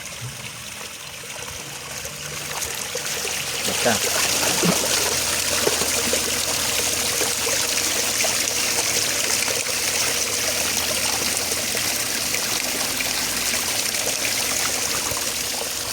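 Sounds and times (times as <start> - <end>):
water trickling: 0.0 - 15.9.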